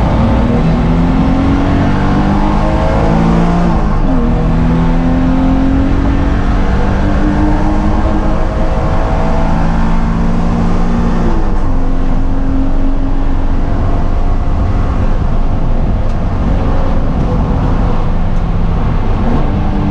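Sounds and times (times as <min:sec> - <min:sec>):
race car engine accelerating: 0:00.0 - 0:19.9
road and wind noise: 0:00.0 - 0:19.9.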